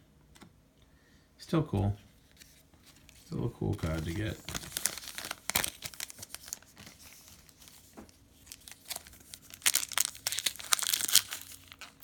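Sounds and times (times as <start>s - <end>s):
cards handled in hands: 2.2s - 12.0s
foil wrapper crinkling: 2.3s - 12.0s.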